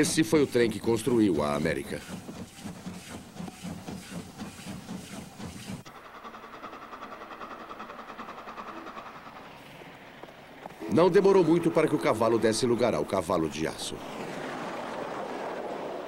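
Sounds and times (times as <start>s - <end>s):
steam locomotive chuffing: 0.0s - 13.6s
running train: 0.0s - 16.0s.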